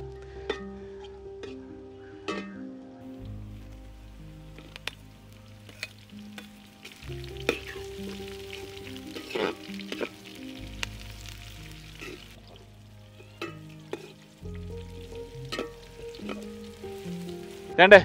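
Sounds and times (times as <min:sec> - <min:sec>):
soft background music: 0:00.0 - 0:18.0
vegetables sizzling in hot oil: 0:03.0 - 0:17.9.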